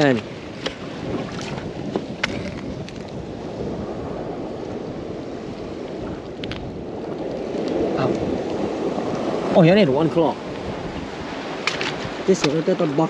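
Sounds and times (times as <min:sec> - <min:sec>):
ocean surf washing ashore: 0:00.0 - 0:13.0
wind on microphone: 0:00.0 - 0:13.0.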